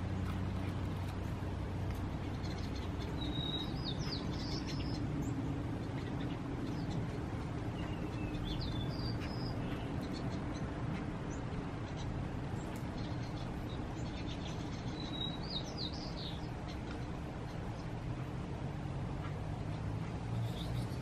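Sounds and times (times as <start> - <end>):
birds chirping: 0.0 - 21.0
low background rumble: 0.0 - 21.0.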